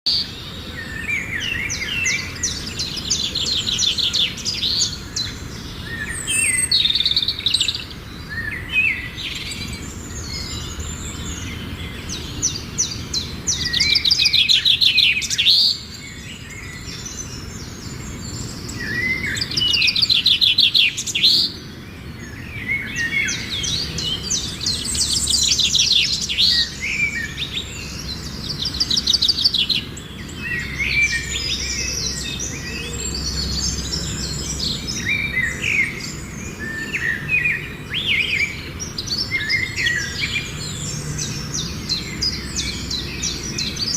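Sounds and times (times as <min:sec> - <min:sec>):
birds chirping and trilling: 0:00.1 - 0:43.9.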